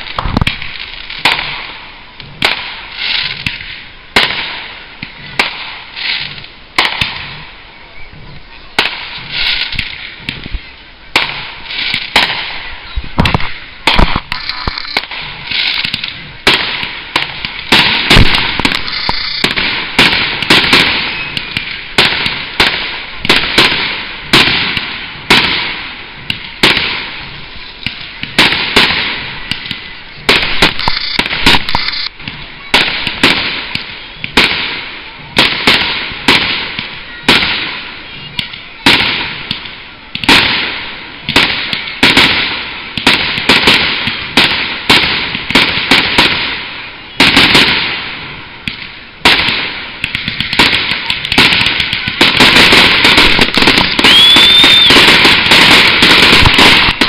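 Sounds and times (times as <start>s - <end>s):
firework shells bursting: 0.0s - 7.5s, 8.8s - 46.6s, 47.2s - 57.0s
firework crackle: 0.0s - 57.0s.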